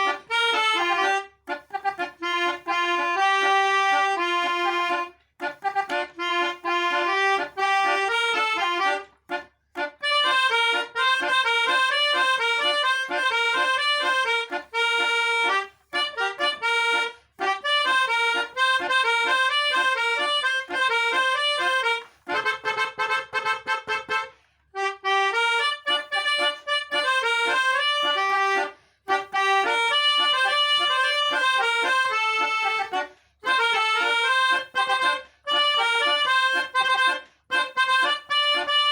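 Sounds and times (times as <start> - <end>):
reedy accordion-like melody: 0.0 - 38.9.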